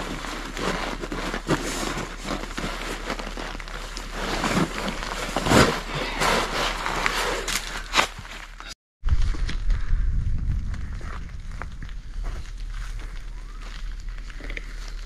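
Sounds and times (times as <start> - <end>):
tent fabric rustling and crinkling: 0.0 - 9.6, 10.8 - 15.0.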